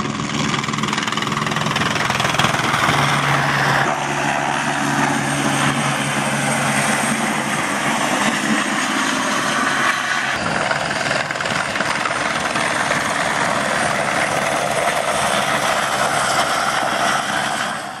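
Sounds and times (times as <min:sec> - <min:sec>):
helicopter flying low past: 0:00.0 - 0:18.0.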